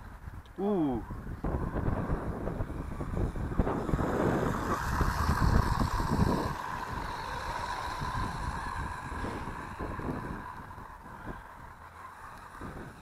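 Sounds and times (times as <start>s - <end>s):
wind buffeting microphone: 0.0s - 13.0s
electric motor whirring: 1.0s - 13.0s.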